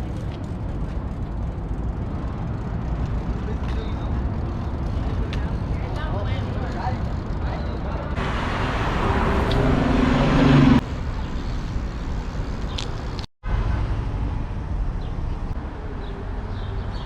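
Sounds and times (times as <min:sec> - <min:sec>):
vehicle engine hum: 0:00.0 - 0:15.6
street traffic rumble: 0:00.0 - 0:17.0.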